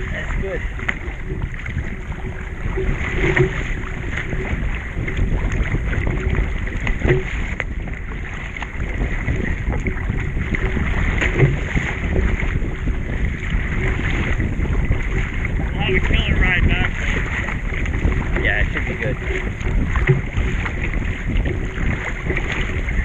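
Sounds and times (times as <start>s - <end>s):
water splashing and lapping: 0.0s - 23.0s
wind over microphone: 0.0s - 23.0s.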